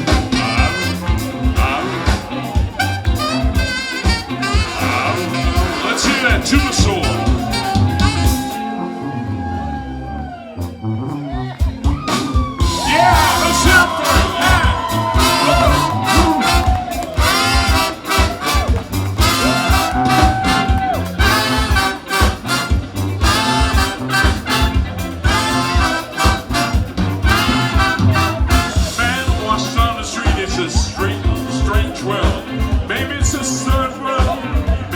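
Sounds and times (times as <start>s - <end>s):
drum and bass beat: 0.0s - 8.7s, 11.3s - 34.9s
brass section playing: 0.0s - 11.4s, 12.1s - 34.9s.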